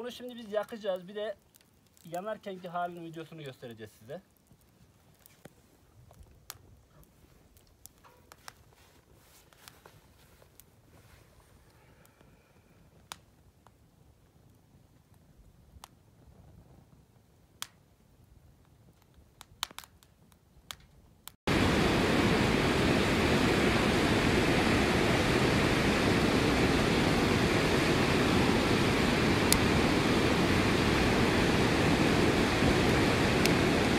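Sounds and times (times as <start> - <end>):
wood fire crackling and rushing: 0.0 - 11.7, 12.7 - 33.9
fire popping: 0.0 - 33.9.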